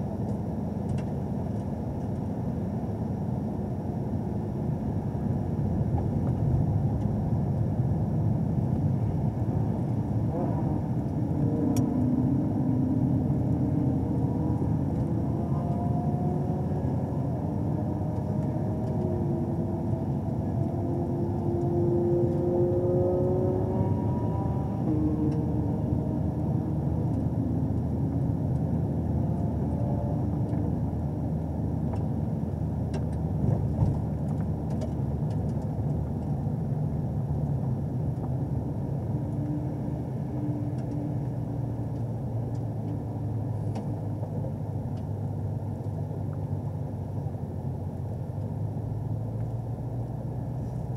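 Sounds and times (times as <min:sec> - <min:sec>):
car engine running at low revs: 0:00.0 - 0:50.9.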